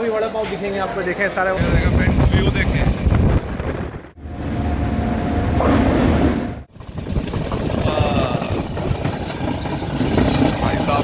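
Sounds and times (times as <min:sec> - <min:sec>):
train rumbling: 0:01.6 - 0:11.0.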